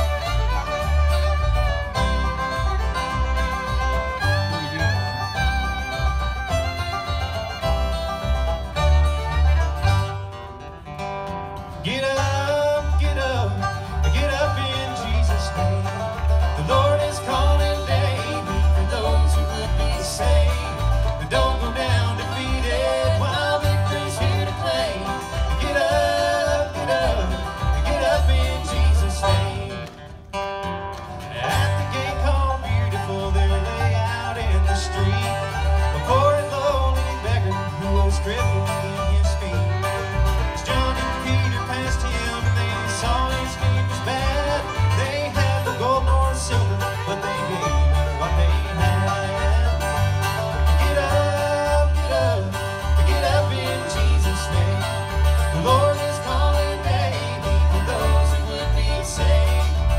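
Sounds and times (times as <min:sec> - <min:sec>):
acoustic guitar: 0:00.0 - 0:59.9
banjo: 0:00.0 - 0:59.9
fiddle: 0:00.0 - 0:59.9
upright bass: 0:00.0 - 0:59.9.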